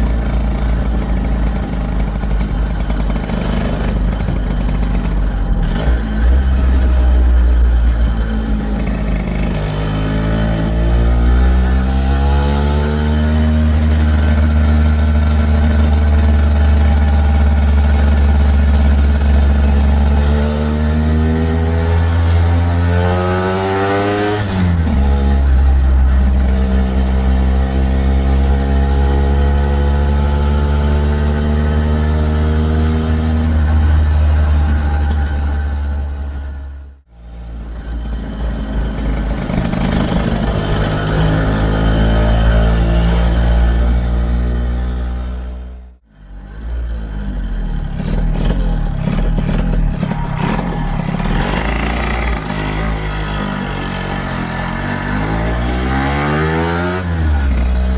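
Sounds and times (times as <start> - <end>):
scooter engine accelerating: 0.0 - 57.9.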